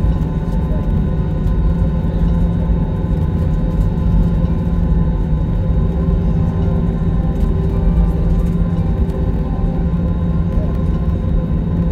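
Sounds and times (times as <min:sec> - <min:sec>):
airliner cabin engine rumble: 0:00.0 - 0:11.9.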